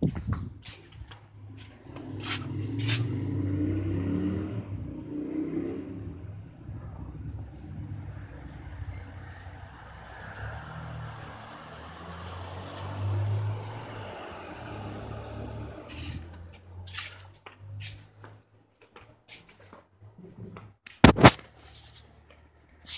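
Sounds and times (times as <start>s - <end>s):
low engine hum: 0.0s - 18.4s.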